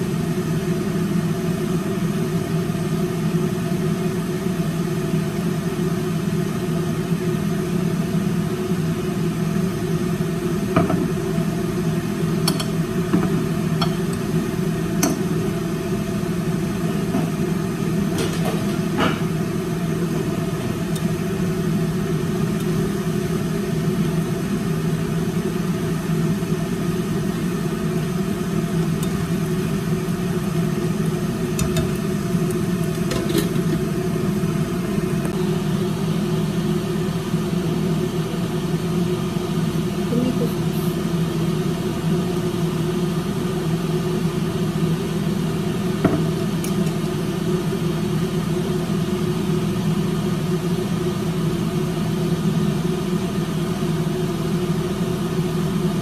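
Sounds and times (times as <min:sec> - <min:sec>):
steady mechanical hum: 0:00.0 - 0:56.0.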